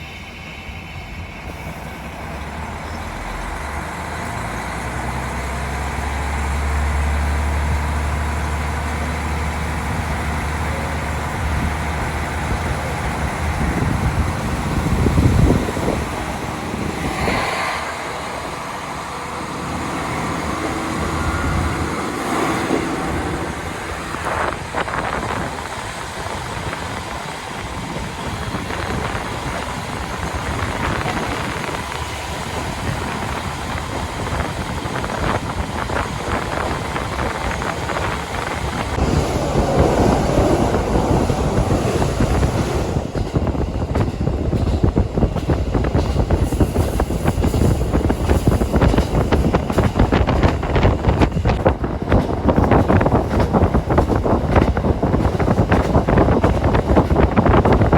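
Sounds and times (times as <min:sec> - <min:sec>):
diesel engine: 0:00.0 - 0:57.9
train wheels on rails: 0:00.0 - 0:57.9.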